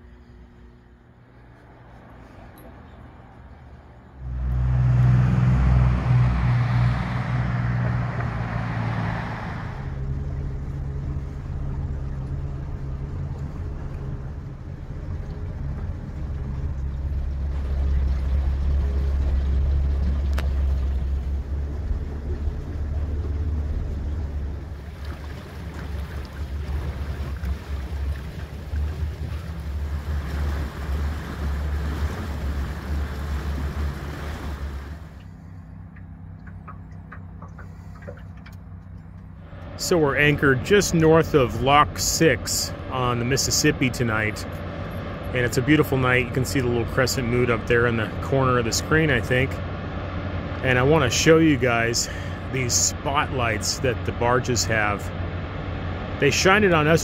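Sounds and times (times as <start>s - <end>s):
boat motor droning: 0.0s - 57.0s
wind and water rushing: 4.2s - 35.5s, 37.0s - 57.0s.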